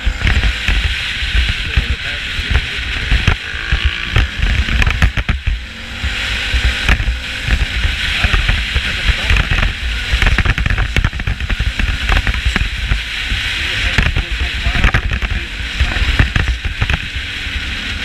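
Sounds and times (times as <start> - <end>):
low engine rumble: 0.0 - 18.0
wind noise: 0.0 - 18.0.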